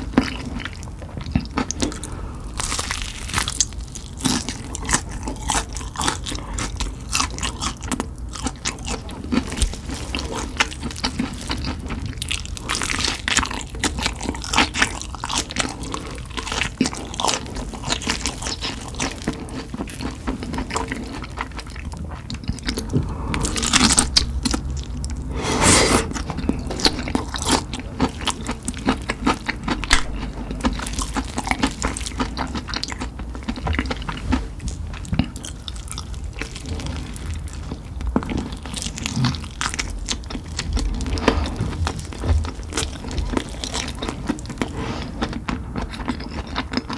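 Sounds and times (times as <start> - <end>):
chewing crunchy fried chicken: 0.0 - 24.7, 26.8 - 46.9.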